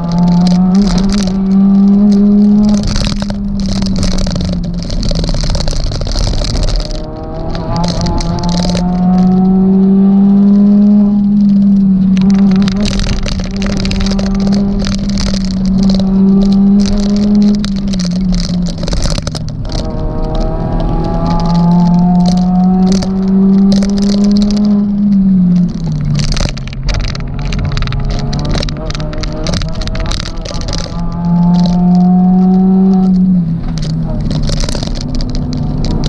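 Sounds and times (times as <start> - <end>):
car body rattles and clicks: 0.0 - 36.0
car engine at high revs: 0.0 - 36.0.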